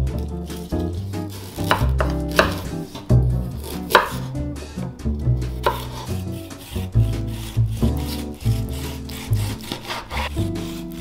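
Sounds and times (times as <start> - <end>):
background music: 0.0 - 11.0
knife slicing on cutting board: 0.4 - 4.4, 5.4 - 11.0.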